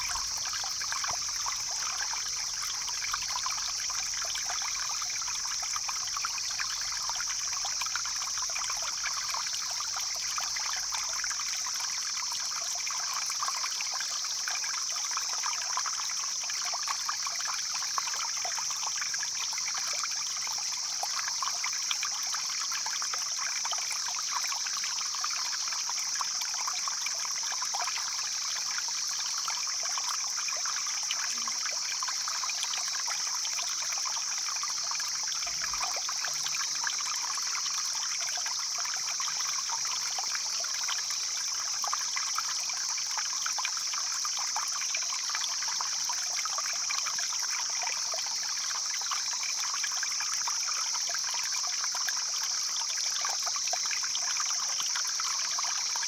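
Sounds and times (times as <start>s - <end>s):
stream rushing and trickling: 0.0s - 56.0s.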